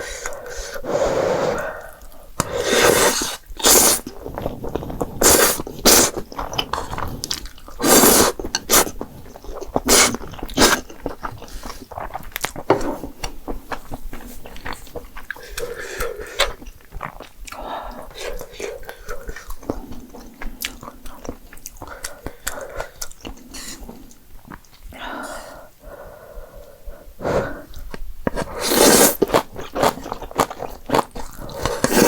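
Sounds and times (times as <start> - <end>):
chewing noodles: 0.0 - 25.3, 25.9 - 32.0.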